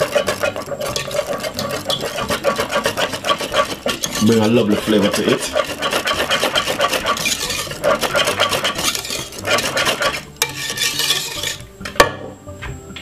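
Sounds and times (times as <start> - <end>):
utensil scraping a pot: 0.0 - 12.1.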